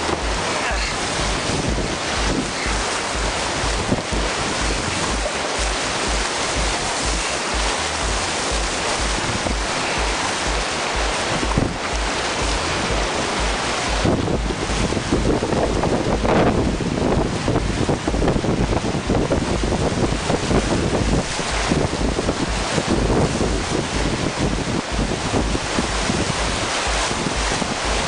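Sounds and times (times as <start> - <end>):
whitewater rapids rushing: 0.0 - 28.0
wind buffeting microphone: 0.0 - 28.0.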